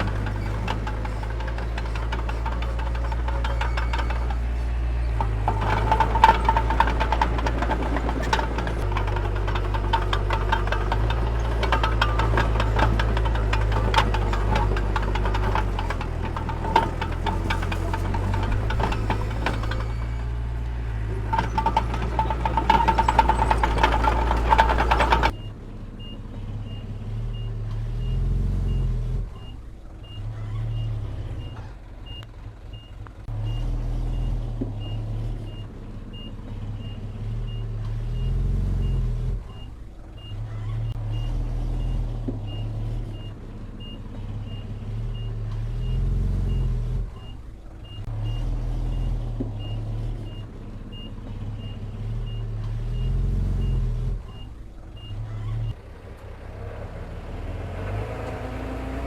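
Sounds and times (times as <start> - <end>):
diesel earthmover engine: 0.0 - 59.0
loud heavy engine: 0.0 - 59.0.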